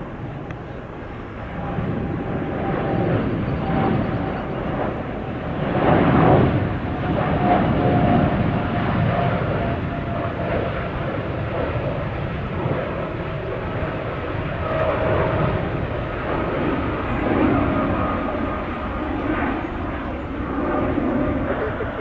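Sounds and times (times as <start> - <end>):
faint engine whine: 0.0 - 22.0
jet engines rumbling: 0.0 - 22.0.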